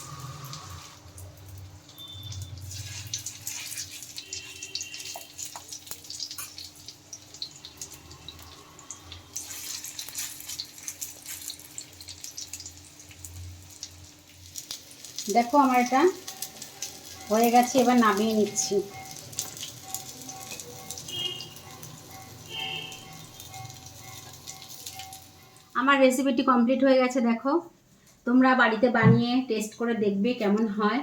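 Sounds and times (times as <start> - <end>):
meat sizzling in a pan: 0.0 - 25.6.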